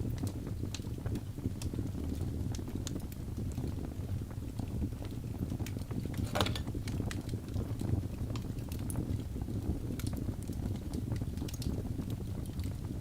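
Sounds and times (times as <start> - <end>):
logs burning in a fireplace: 0.0 - 13.0.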